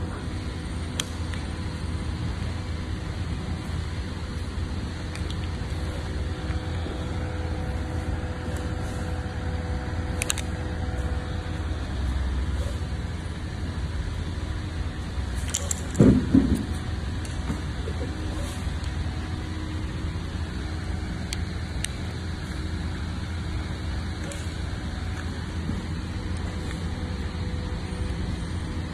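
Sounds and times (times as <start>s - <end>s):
low background hum: 0.0s - 28.9s.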